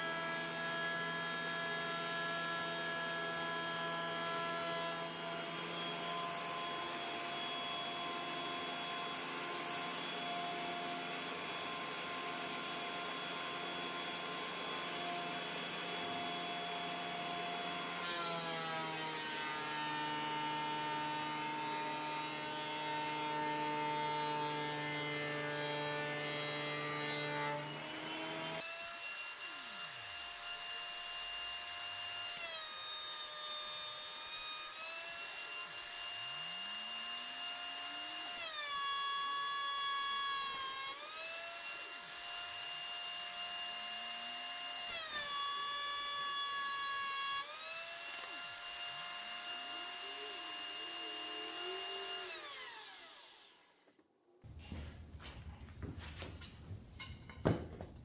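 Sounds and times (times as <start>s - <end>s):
wood planer motor running: 0.0s - 32.3s, 39.8s - 54.0s.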